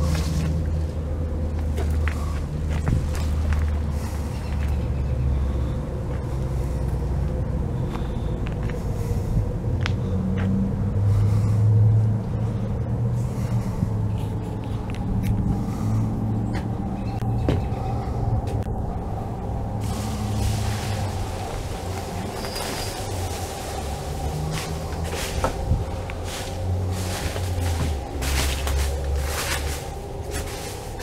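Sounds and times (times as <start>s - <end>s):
large engine rumbling: 0.0s - 31.0s.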